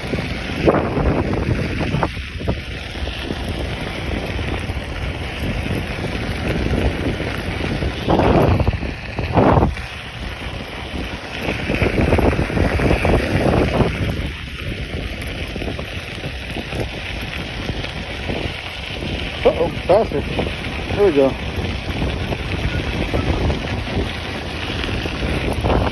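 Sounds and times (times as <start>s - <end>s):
tyres rolling on gravel: 0.0s - 25.9s
wind buffeting microphone: 0.0s - 25.9s.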